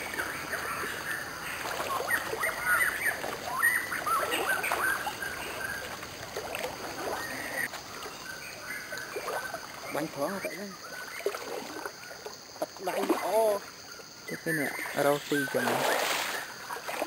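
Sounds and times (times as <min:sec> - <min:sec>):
water sloshing from wading: 0:00.0 - 0:17.0.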